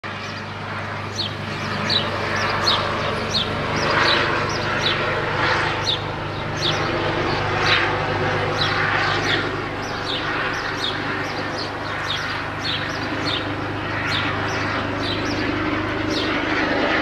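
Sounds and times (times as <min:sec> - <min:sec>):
helicopter flying overhead: 0:00.0 - 0:17.0
bird chirping: 0:00.2 - 0:05.2, 0:05.8 - 0:07.6, 0:08.5 - 0:16.4.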